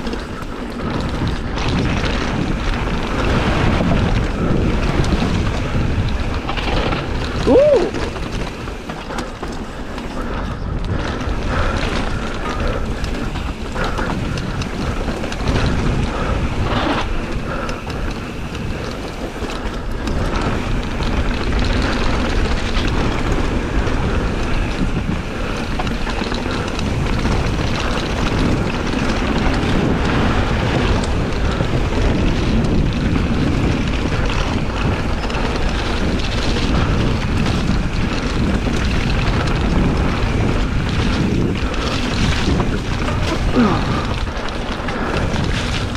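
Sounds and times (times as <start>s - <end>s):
bike rattling and knocking: 0.0s - 45.9s
bike tyres rolling over dirt: 0.0s - 45.9s
wind on camera microphone: 0.0s - 45.9s.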